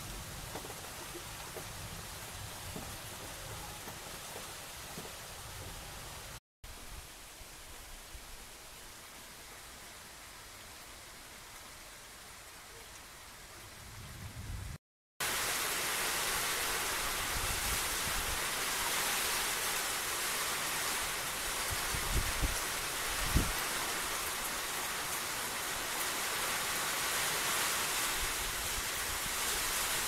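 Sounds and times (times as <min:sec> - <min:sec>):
heavy rain on grass: 0:00.0 - 0:30.0.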